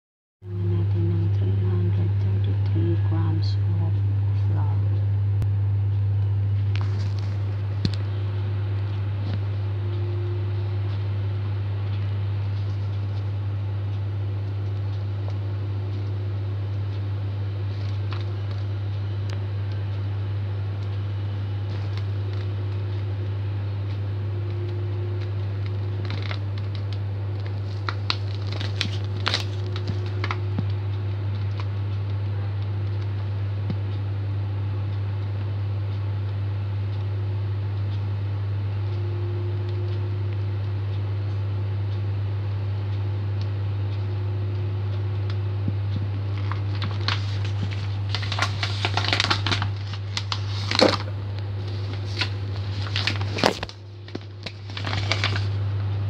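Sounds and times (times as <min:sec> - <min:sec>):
low electrical hum: 0:00.4 - 0:56.0.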